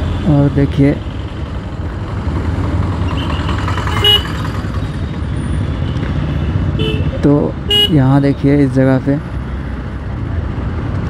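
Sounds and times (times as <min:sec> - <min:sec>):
motorcycle engine and road noise: 0:00.0 - 0:11.0.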